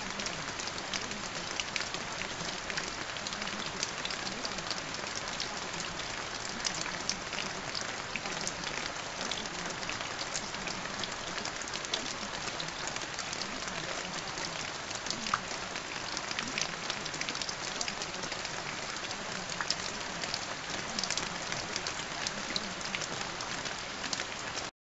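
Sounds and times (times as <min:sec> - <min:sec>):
steady rain: 0:00.0 - 0:24.7.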